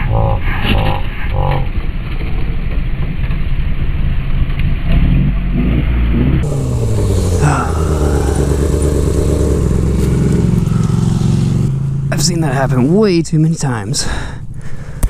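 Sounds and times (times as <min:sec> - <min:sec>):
motorcycle engine running: 0:01.6 - 0:15.0.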